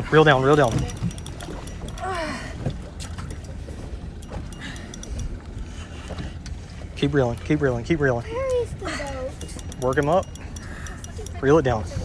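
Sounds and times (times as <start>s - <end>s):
low steady rumble: 0.0s - 12.0s
water sounds: 0.0s - 12.0s.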